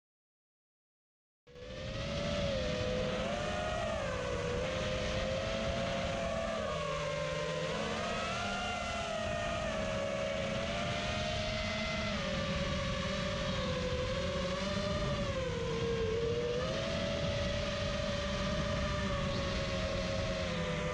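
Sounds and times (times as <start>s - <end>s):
drone propellers whining: 1.5s - 20.9s
steady rushing noise: 1.6s - 20.9s.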